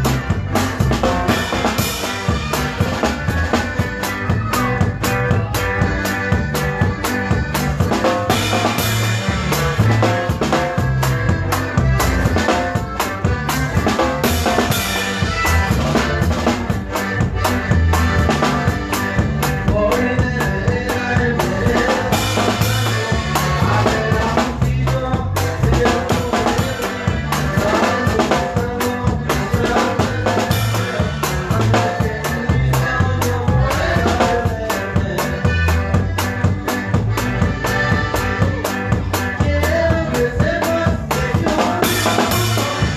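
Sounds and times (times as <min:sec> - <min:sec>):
bass guitar: 0:00.0 - 0:42.9
drum kit beat: 0:00.0 - 0:42.9
live band playing dance music: 0:00.0 - 0:42.9.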